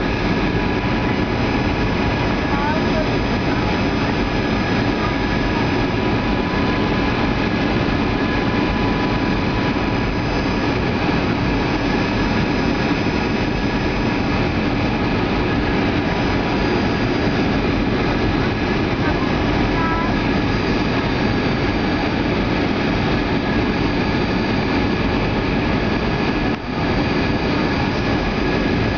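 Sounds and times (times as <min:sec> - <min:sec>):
jet engine and airflow noise: 0:00.0 - 0:28.9
thin steady whine: 0:00.0 - 0:28.9.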